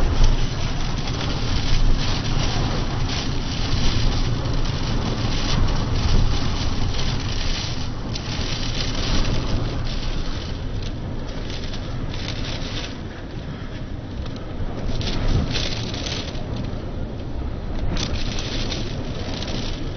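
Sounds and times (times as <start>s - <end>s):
storm wind buffeting microphone: 0.0s - 19.9s.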